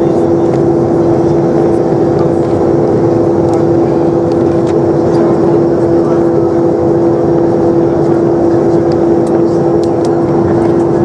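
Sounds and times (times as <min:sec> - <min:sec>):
jet engines idling hum: 0:00.0 - 0:11.0
rushing cabin air: 0:00.0 - 0:11.0.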